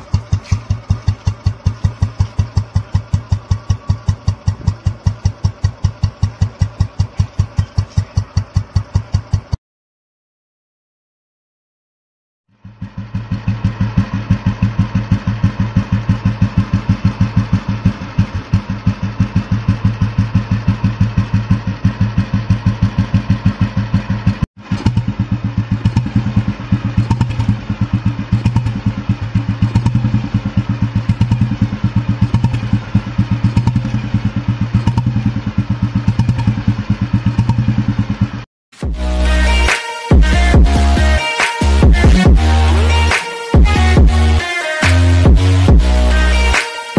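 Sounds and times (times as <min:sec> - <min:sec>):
motorcycle engine idling: 0:00.0 - 0:09.6, 0:12.5 - 0:44.4.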